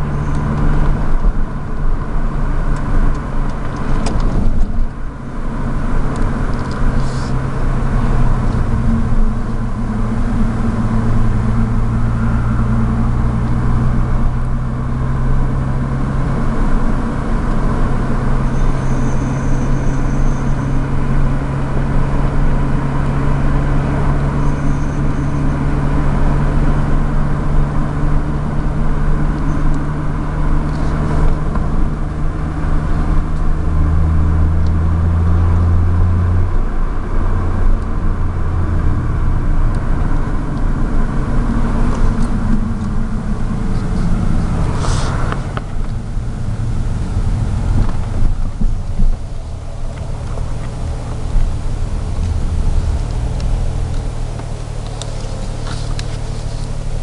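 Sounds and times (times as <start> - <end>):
car engine low drone: 0.0 - 57.0.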